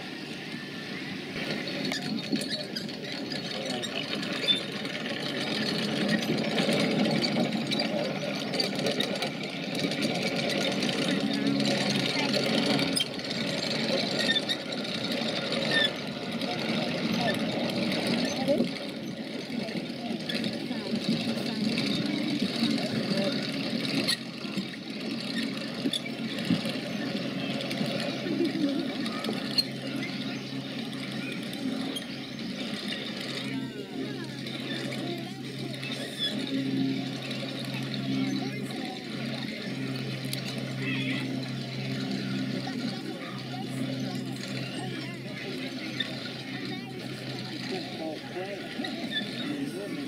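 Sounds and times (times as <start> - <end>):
crowd talking: 0.0 - 50.0
low engine hum: 0.0 - 50.0
small machine clattering: 1.4 - 50.0.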